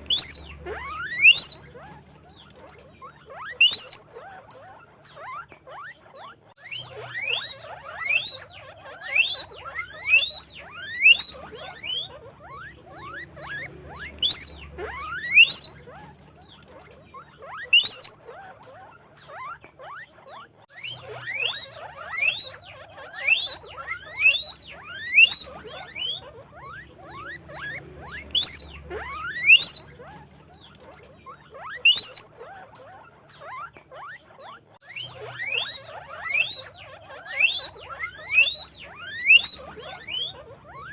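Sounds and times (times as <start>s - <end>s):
faint overlapping squeaks: 0.0s - 40.9s
guinea pigs wheeking: 0.0s - 40.9s.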